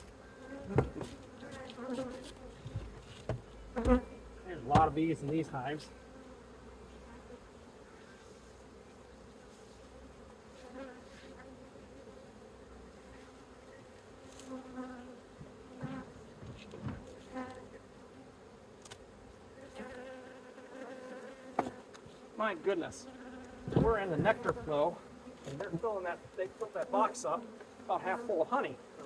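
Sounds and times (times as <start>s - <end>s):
honeybees humming: 0.0s - 29.0s.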